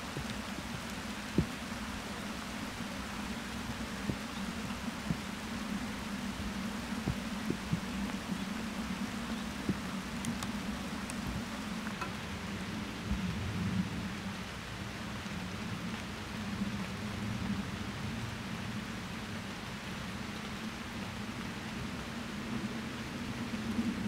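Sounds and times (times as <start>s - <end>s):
rain falling on asphalt: 0.0s - 24.0s.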